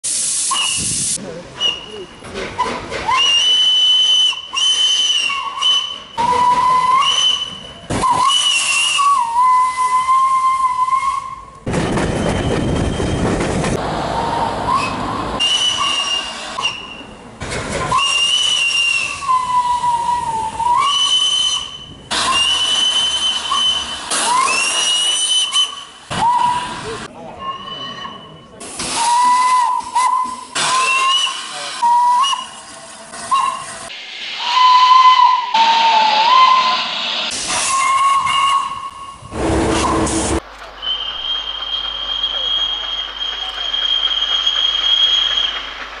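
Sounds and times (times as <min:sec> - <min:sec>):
loud steam hiss: 0:00.0 - 0:27.2, 0:28.4 - 0:46.0
steam locomotive whistle blasts: 0:00.1 - 0:02.0, 0:03.0 - 0:11.6, 0:14.3 - 0:17.1, 0:17.9 - 0:32.6, 0:33.3 - 0:33.7, 0:34.4 - 0:45.5.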